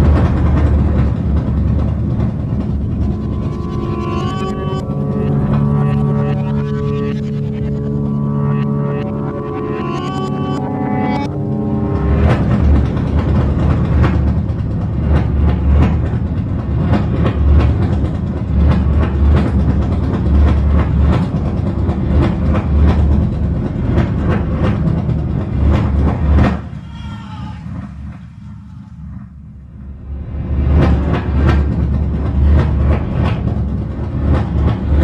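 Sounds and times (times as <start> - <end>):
wheels clattering over rails: 0.0 - 6.2, 11.8 - 29.2, 30.3 - 35.0
subway train rumble: 0.0 - 35.0.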